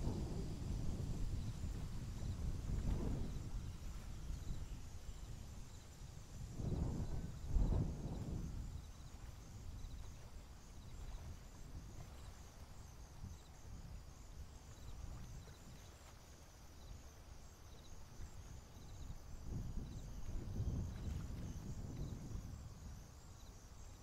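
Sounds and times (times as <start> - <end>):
low wind rumble: 0.0 - 15.9, 17.1 - 23.8
steady high-pitched hiss: 0.0 - 24.0.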